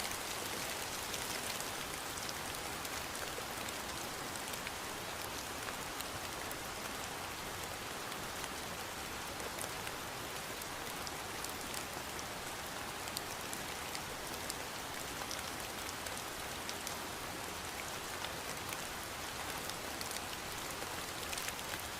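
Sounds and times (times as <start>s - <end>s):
steady rain falling: 0.0s - 21.9s
raindrops ticking on surface: 0.1s - 21.9s.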